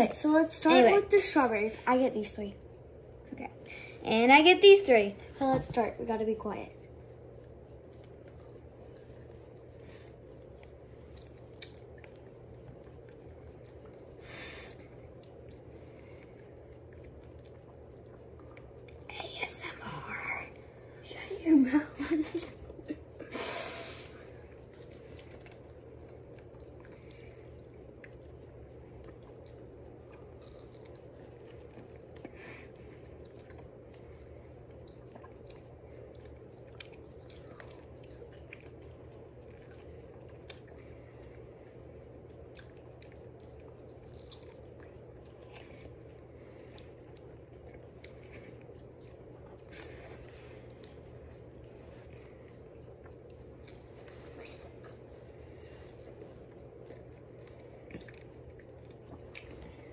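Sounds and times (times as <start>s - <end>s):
low room hum: 0.0s - 59.9s
chewing strawberries: 4.9s - 23.4s, 24.0s - 59.9s.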